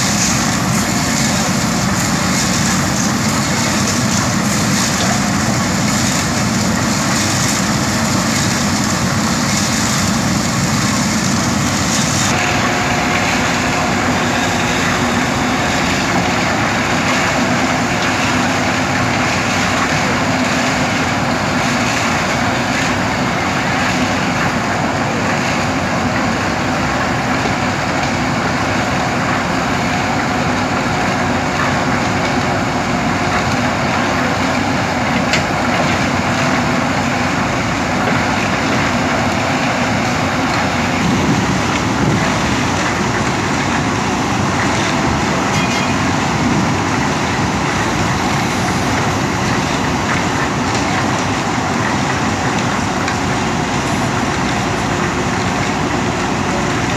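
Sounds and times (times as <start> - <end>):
backhoe digging and dumping soil: 0.0 - 56.9
diesel engine running under load: 0.0 - 56.9.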